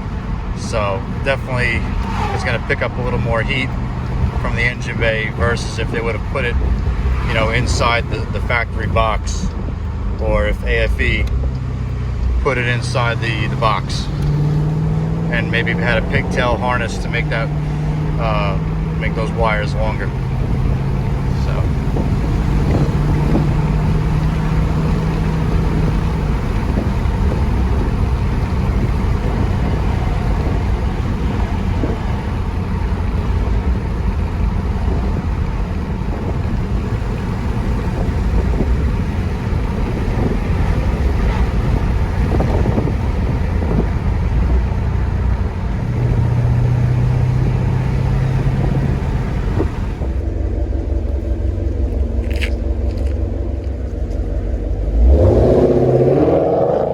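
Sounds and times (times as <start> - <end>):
car engine drone: 0.0 - 56.9
road noise inside car: 0.0 - 56.9.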